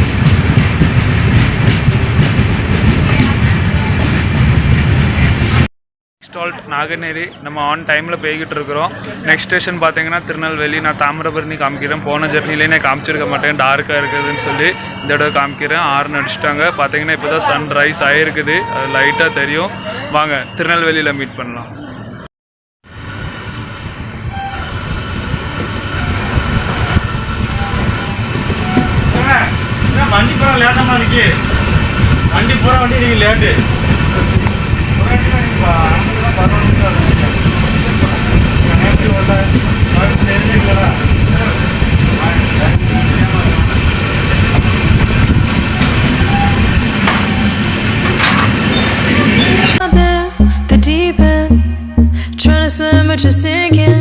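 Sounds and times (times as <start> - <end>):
passenger train rumbling on track: 0.0 - 54.0.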